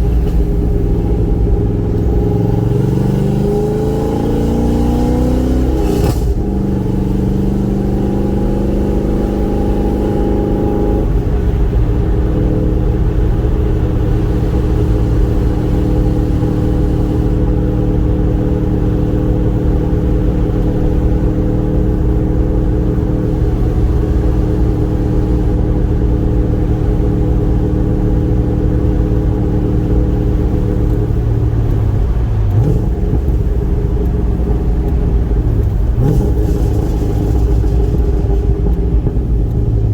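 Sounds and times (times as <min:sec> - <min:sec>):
car engine and exhaust running: 0:00.0 - 0:39.9.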